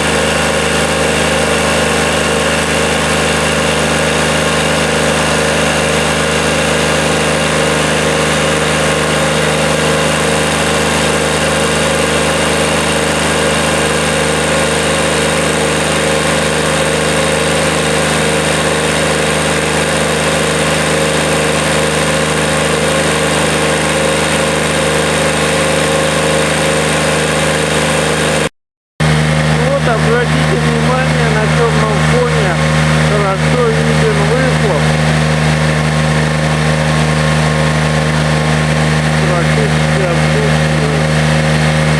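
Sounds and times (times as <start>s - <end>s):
diesel engine running steadily: 0.0s - 41.9s.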